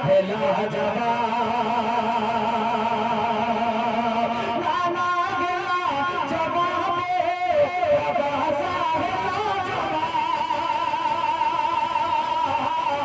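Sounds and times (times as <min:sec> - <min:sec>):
devotional singing through pa system: 0:00.0 - 0:13.0.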